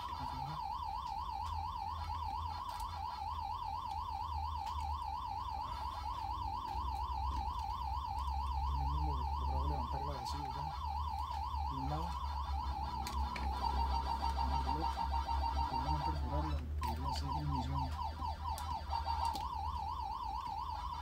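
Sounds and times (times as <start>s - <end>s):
electronic siren warbling: 0.0s - 21.0s.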